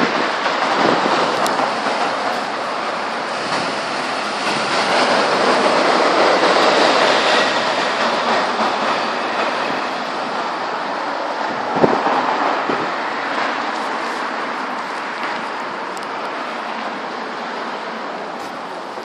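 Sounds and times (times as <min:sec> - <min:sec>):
gale-force wind rushing: 0:00.0 - 0:19.0.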